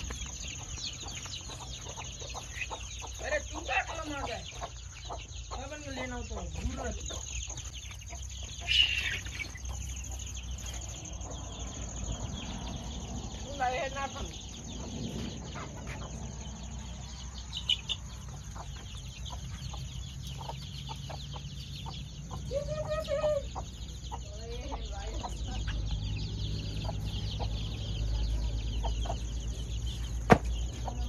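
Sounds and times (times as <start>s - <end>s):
hen clucking: 0.0s - 31.0s.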